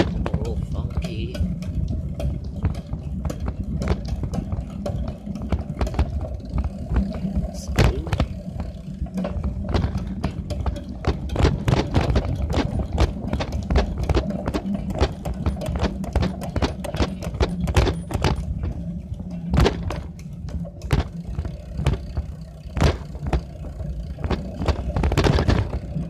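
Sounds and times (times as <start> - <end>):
items rattling in bicycle basket: 0.0 - 26.0.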